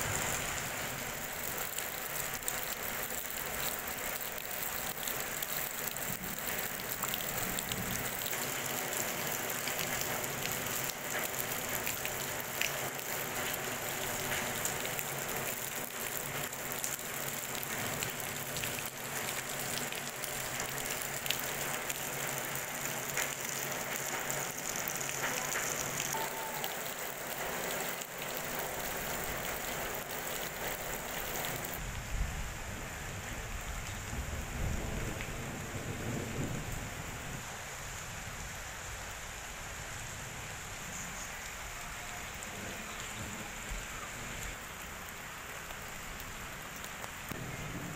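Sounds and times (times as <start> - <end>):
rain pattering on leaves: 0.0 - 47.9.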